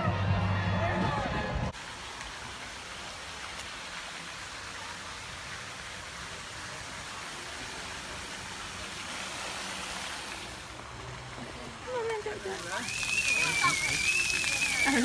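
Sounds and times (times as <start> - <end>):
water jets spraying: 1.7 - 15.0.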